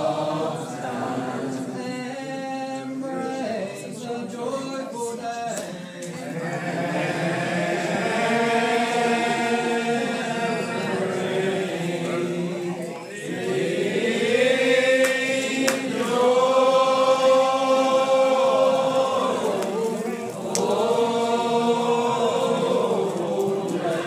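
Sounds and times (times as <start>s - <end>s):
congregation singing a hymn: 0.0s - 24.0s.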